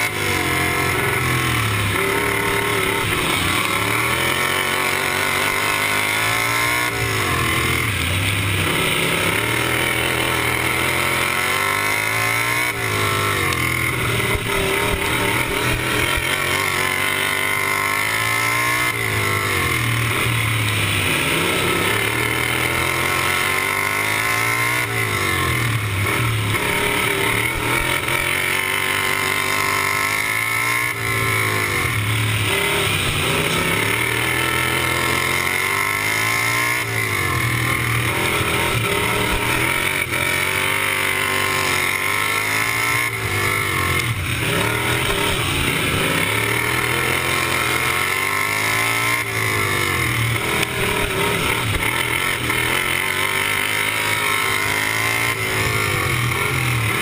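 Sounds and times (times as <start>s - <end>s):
lawn mower engine revving: 0.0s - 57.0s.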